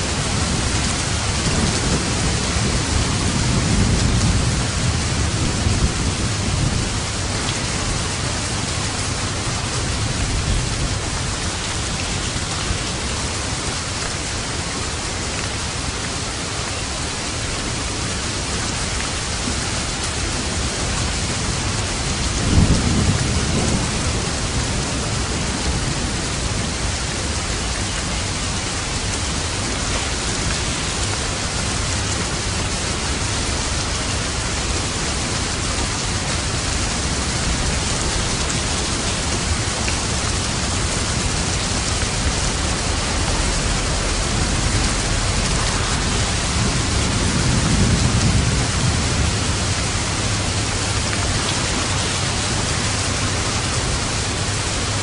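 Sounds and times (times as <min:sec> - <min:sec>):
thunder rumble: 0:00.0 - 0:13.6, 0:19.4 - 0:29.7, 0:31.4 - 0:55.0
steady rain falling: 0:00.0 - 0:55.0.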